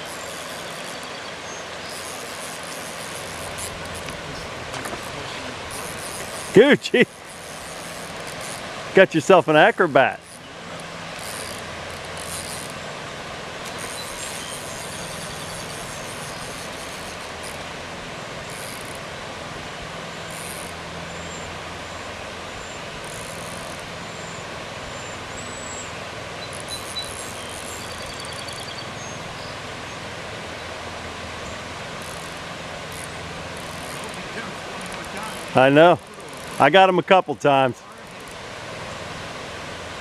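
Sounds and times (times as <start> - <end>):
creek flowing over rocks: 0.0 - 40.0.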